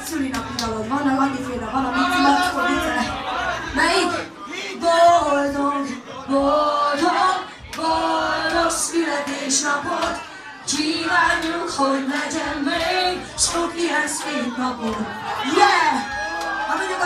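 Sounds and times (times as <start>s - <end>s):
woman singing into microphone: 0.0s - 16.1s.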